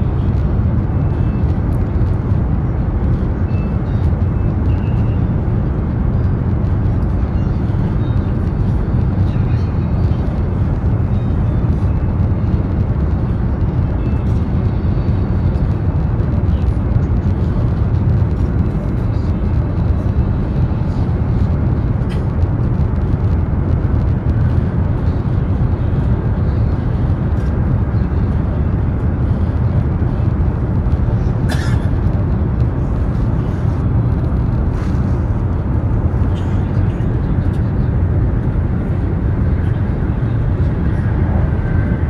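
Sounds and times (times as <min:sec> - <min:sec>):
train cabin low rumble: 0:00.0 - 0:42.0.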